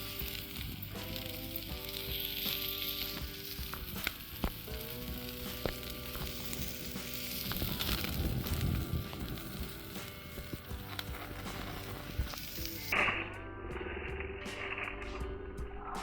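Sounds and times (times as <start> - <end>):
meat sizzling on a grill: 0.0 - 13.0
fat popping: 0.0 - 15.4
soft background music: 0.0 - 16.0.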